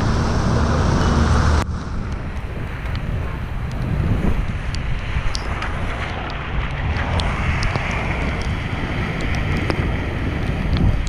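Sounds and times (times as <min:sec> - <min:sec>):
bicycle tyres on wet pavement: 0:00.0 - 0:11.0
wind rushing over microphone: 0:00.0 - 0:11.0.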